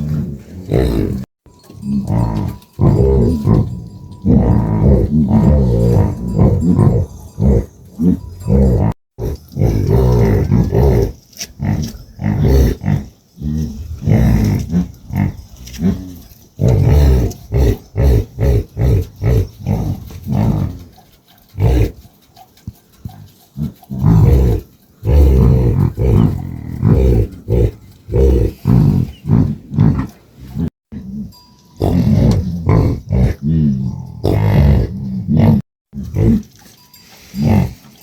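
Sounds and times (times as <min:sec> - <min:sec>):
animal grunting and growling: 0:00.0 - 0:36.6, 0:37.2 - 0:38.0.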